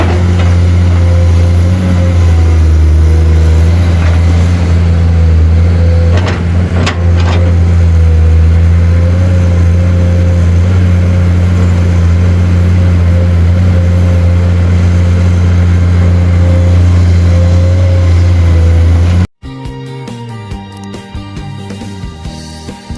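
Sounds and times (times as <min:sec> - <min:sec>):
diesel engine running steadily: 0:00.0 - 0:19.3.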